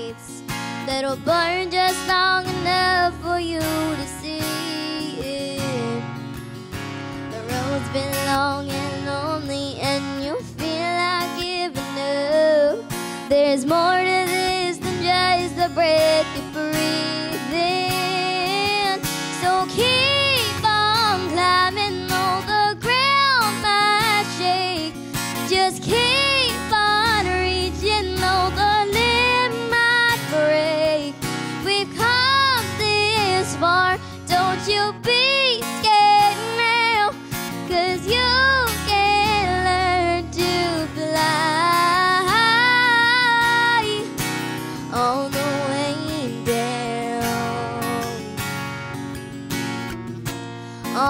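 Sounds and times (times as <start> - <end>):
girl singing country song: 0.0 - 51.0
strummed acoustic guitar: 0.0 - 51.0.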